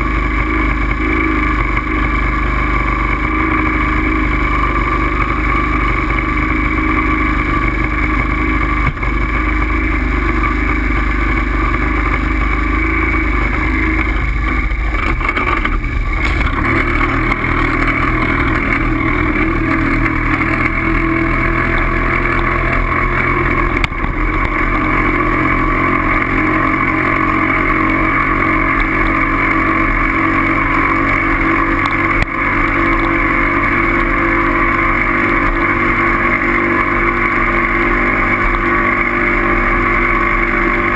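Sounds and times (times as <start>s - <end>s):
vehicle engine drone: 0.0s - 40.9s.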